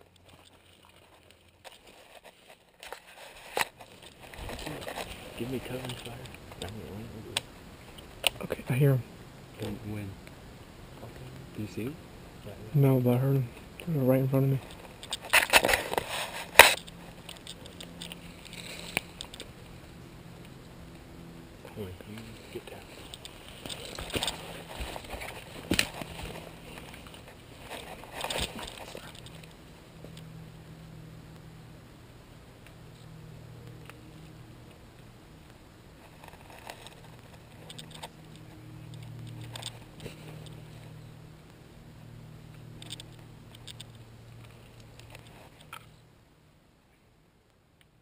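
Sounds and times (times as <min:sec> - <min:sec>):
dry leaves and twigs crackling: 0:00.0 - 0:09.0, 0:12.8 - 0:31.5, 0:32.6 - 0:46.1
low steady hum: 0:00.0 - 0:48.0.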